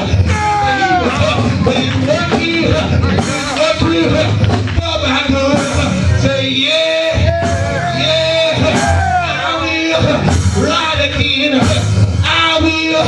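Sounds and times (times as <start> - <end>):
church backing music: 0.0 - 13.0
man singing gospel: 0.0 - 13.0.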